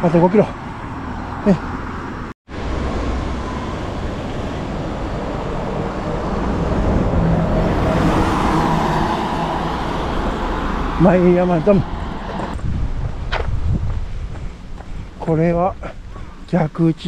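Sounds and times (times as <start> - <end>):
road traffic rumble and hiss: 0.0 - 17.0.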